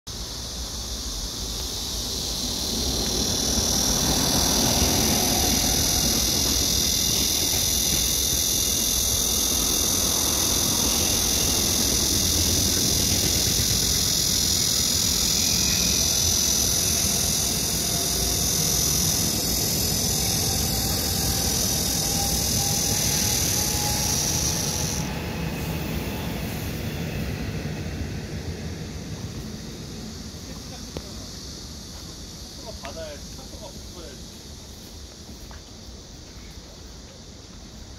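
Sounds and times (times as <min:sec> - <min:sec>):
cicada buzzing: 0:00.1 - 0:37.9.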